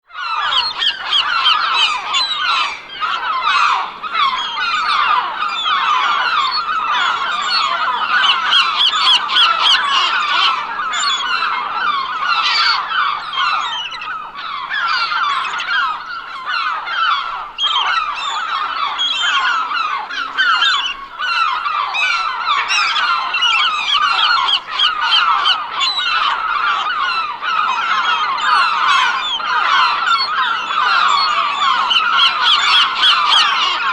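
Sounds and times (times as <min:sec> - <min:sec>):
gulls calling: 0:00.1 - 0:33.9.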